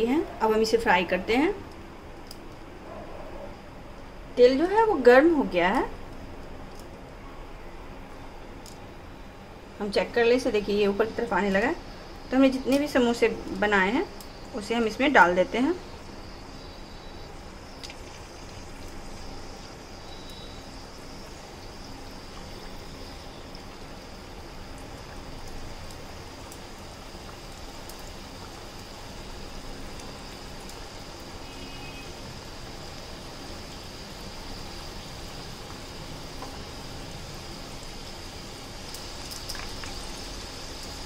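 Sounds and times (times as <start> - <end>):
food deep-frying in oil: 0.0 - 2.9, 3.5 - 41.0.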